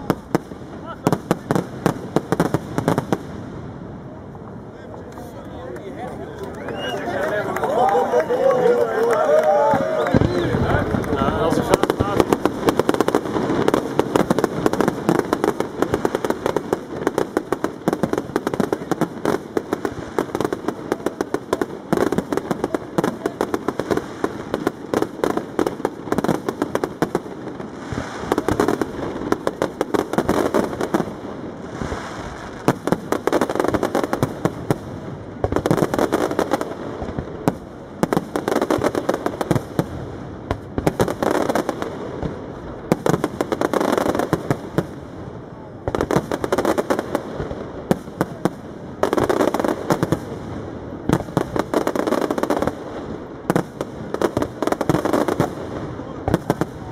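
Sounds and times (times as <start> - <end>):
fireworks cracking and banging: 0.0 - 56.9.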